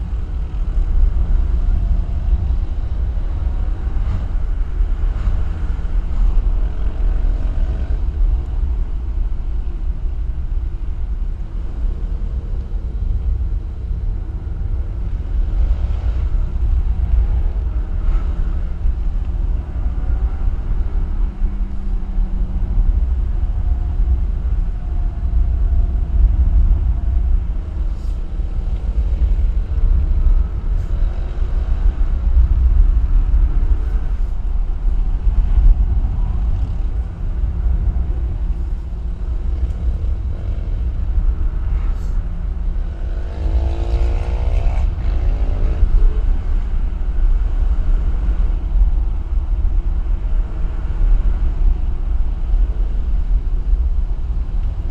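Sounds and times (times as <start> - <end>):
wind and road noise: 0.0 - 54.9.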